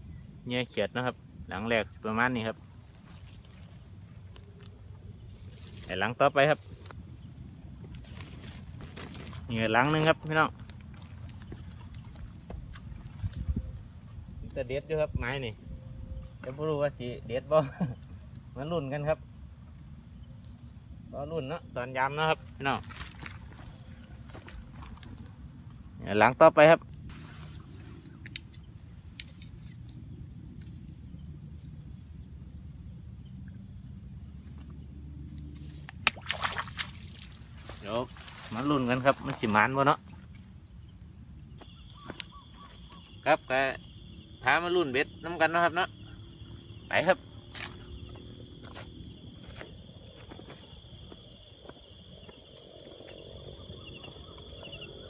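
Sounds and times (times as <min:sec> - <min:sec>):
high insect trill: 0:00.0 - 0:55.0.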